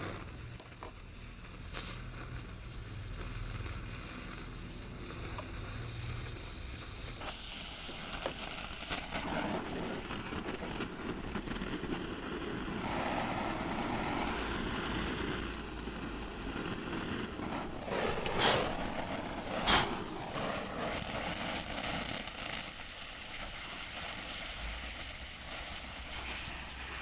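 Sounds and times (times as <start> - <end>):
torch flame rushing: 0.0 - 27.0.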